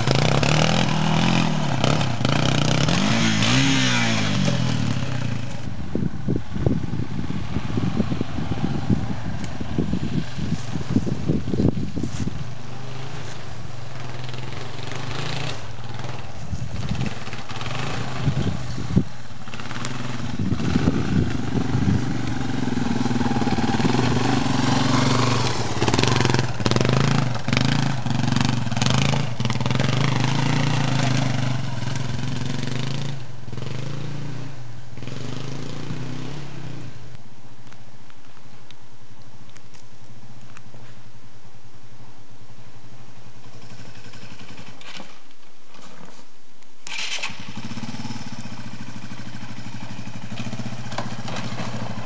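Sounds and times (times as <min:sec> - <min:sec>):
motorbike engine at low revs: 0:00.0 - 0:37.2, 0:43.2 - 0:46.2, 0:46.8 - 0:52.0.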